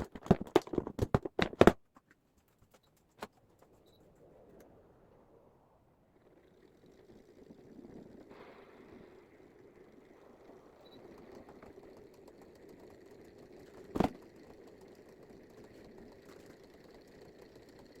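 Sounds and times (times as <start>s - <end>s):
low mechanical hum: 2.0s - 18.0s.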